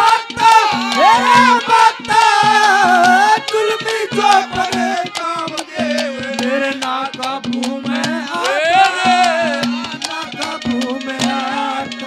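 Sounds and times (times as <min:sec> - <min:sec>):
boy singing: 0:00.0 - 0:12.0
hand drum: 0:00.0 - 0:12.0
harmonium: 0:00.0 - 0:12.0.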